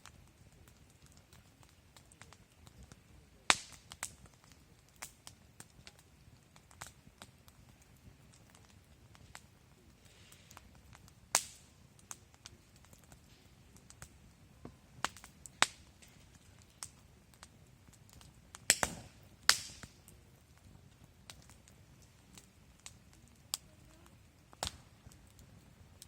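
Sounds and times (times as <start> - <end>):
faint background hiss: 0.0 - 26.0
wood fire crackling and popping: 0.0 - 26.0.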